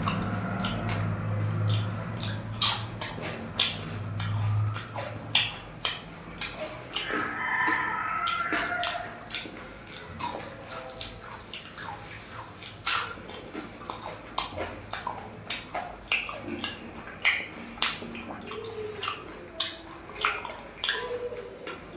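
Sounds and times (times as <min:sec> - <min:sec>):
chewing and lip smacking: 0:00.0 - 0:21.9.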